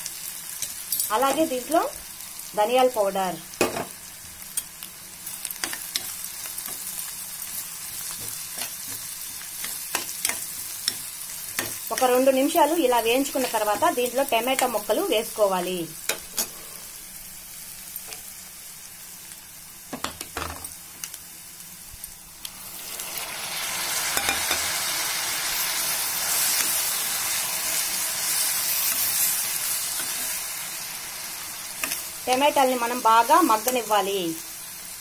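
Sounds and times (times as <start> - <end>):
onions sizzling in oil: 0.0 - 35.0.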